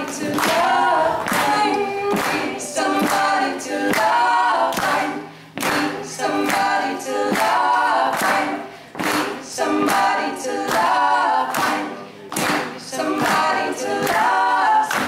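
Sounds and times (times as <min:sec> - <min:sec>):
women singing in harmony: 0:00.0 - 0:15.0.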